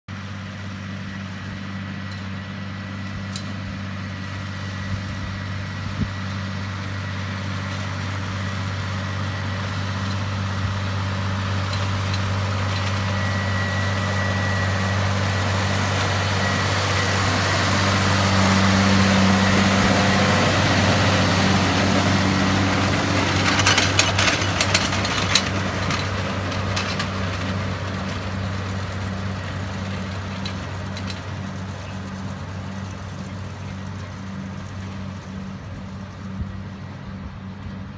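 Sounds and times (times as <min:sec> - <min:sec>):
tractor diesel engine running: 0:00.1 - 0:37.9.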